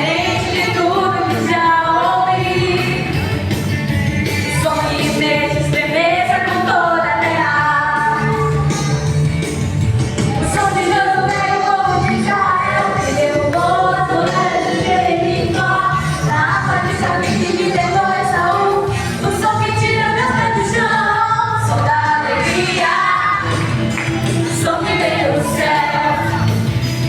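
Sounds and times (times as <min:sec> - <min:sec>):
song with sung vocals: 0:00.0 - 0:27.0.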